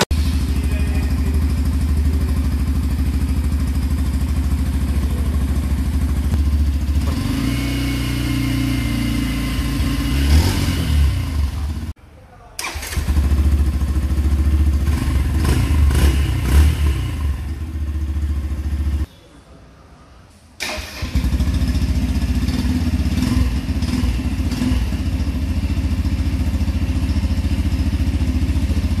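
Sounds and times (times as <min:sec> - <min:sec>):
motorcycle engine running: 0:00.0 - 0:12.0, 0:12.7 - 0:19.1, 0:21.0 - 0:29.0.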